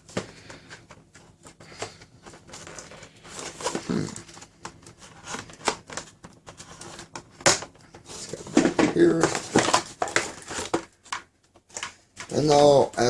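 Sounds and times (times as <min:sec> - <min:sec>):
plastic and cardboard crinkling: 0:00.0 - 0:13.0.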